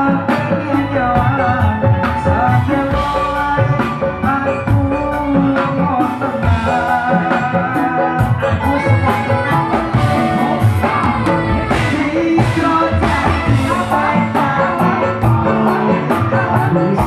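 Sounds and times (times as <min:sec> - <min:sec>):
live band music: 0:00.0 - 0:17.0
man singing into a microphone: 0:00.0 - 0:17.0.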